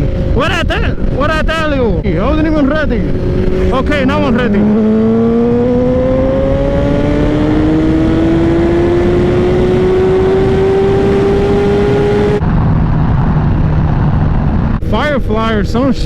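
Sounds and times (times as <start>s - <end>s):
motorcycle engine accelerating: 0.0s - 15.8s
heavy wind rush: 0.0s - 16.0s.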